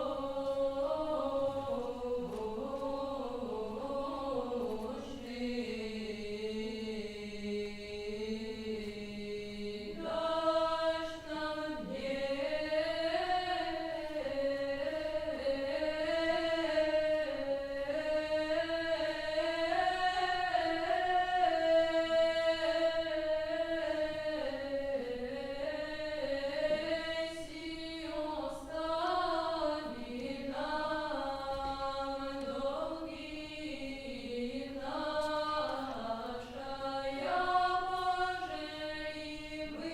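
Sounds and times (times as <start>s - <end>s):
voices singing a chant: 0.0s - 39.9s.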